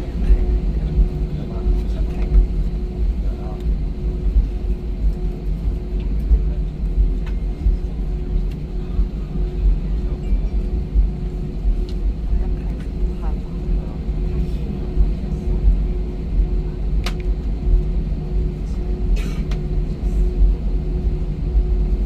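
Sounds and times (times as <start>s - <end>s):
airliner cabin rumble: 0.0s - 22.0s
constant hum: 0.0s - 22.0s.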